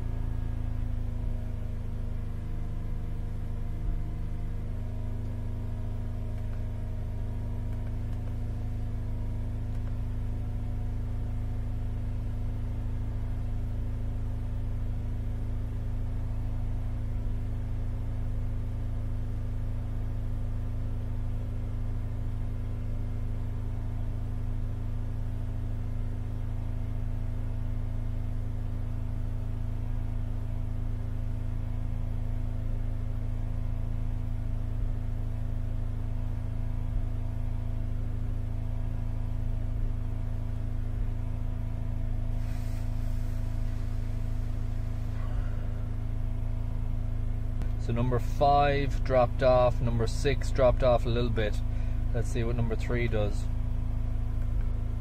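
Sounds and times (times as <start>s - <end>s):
car engine running rough: 0.0s - 55.0s.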